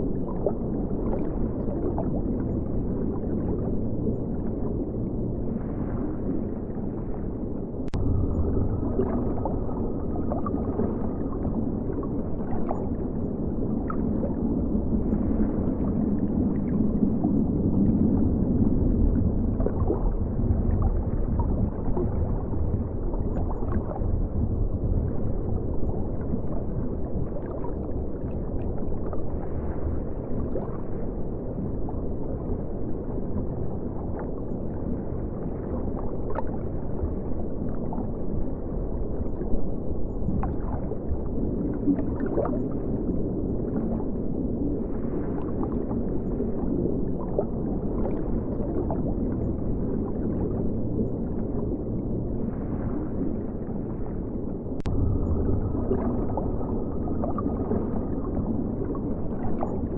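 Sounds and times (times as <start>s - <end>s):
underwater river current rush: 0.0s - 59.9s.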